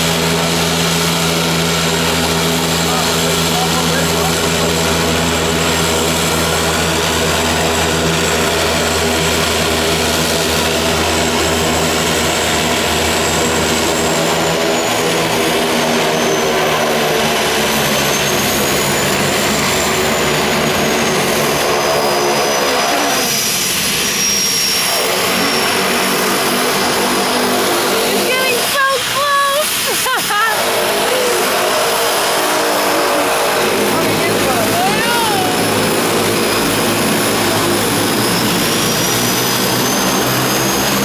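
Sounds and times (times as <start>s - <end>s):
high turbine whine: 0.0s - 41.0s
turboprop engines droning: 0.0s - 41.0s.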